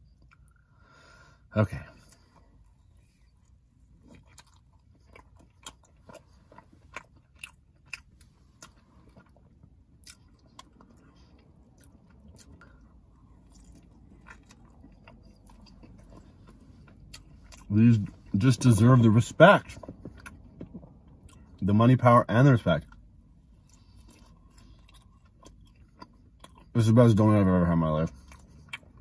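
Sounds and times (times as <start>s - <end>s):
faint low hum: 0.0s - 29.0s
person chewing: 2.0s - 21.6s, 22.8s - 26.8s, 28.1s - 29.0s.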